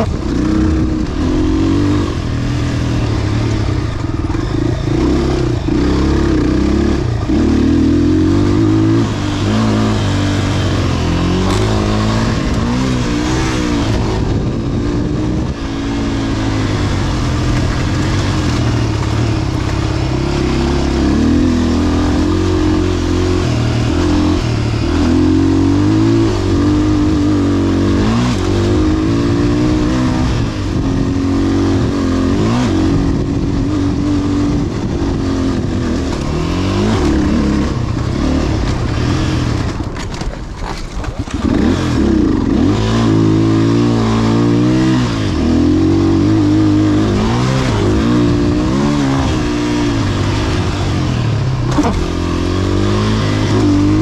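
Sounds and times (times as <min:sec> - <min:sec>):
dirt bike engine revving: 0:00.0 - 0:40.2, 0:41.1 - 0:54.0.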